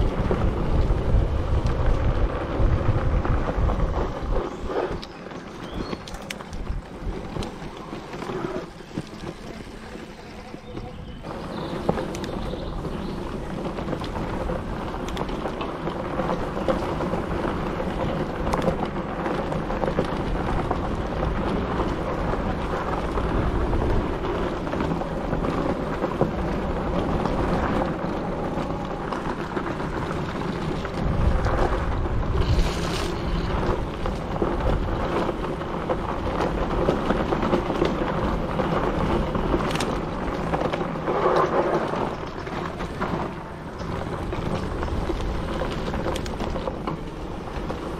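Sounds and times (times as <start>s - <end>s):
bike rattling over bumps: 0.0s - 47.9s
tyres rumbling on dirt: 0.0s - 47.9s
wind buffeting microphone: 0.0s - 47.9s.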